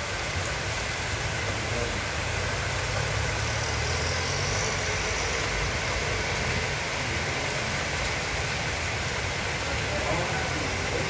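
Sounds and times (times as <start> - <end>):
heavy rain hissing: 0.0 - 11.0
vehicles driving through water: 0.0 - 11.0.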